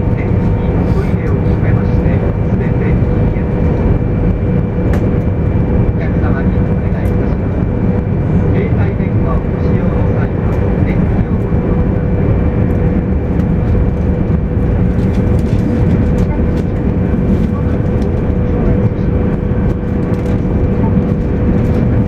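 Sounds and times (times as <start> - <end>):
constant humming tone: 0.0 - 22.0
train wheels rumbling: 0.0 - 22.0.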